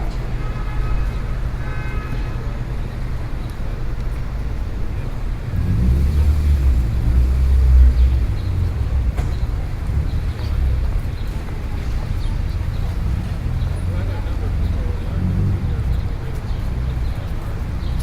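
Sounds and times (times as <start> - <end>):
deep engine rumble: 0.0 - 18.0
street traffic rumble: 0.0 - 18.0.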